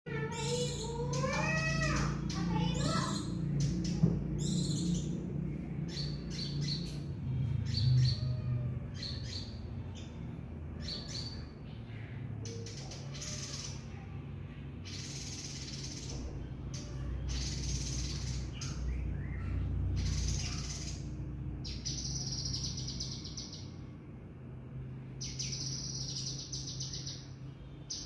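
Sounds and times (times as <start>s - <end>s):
harsh raspy bird notes: 0.1s - 14.2s, 14.8s - 23.8s
low background hum: 0.1s - 28.0s
songbird chirping: 0.1s - 28.0s.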